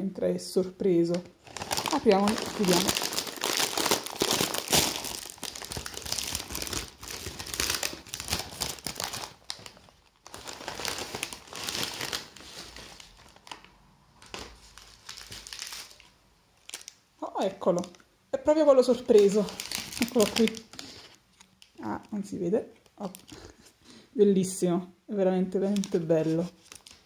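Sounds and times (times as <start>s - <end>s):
crisp packet crinkling: 1.0s - 18.0s, 18.8s - 22.2s, 22.8s - 23.7s, 25.6s - 27.0s.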